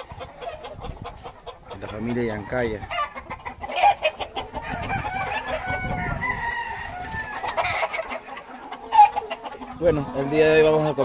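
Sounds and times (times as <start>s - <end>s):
roosters clucking: 0.0s - 11.0s
roosters crowing: 1.8s - 11.0s.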